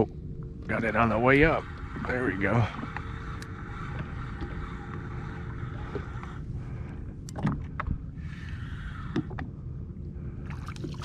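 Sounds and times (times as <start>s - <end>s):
water noise: 0.0s - 11.0s.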